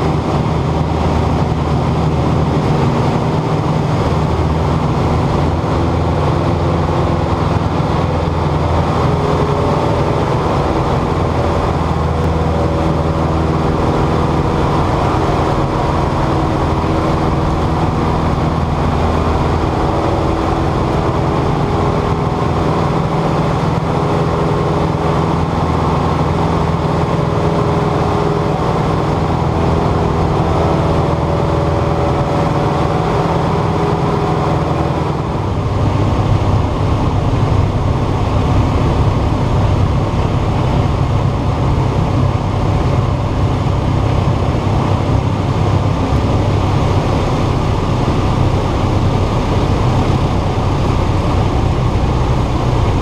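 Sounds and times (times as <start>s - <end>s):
light plane engine droning in cabin: 0.0s - 53.0s.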